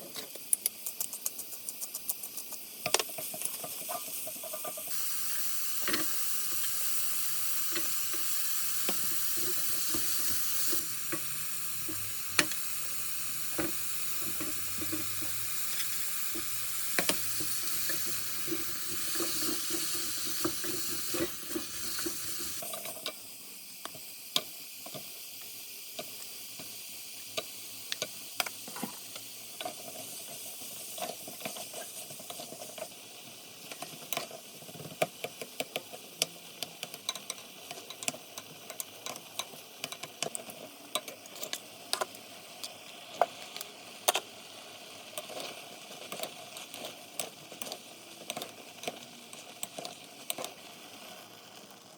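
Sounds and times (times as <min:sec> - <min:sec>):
food sizzling in frying pan: 0:00.0 - 0:51.9.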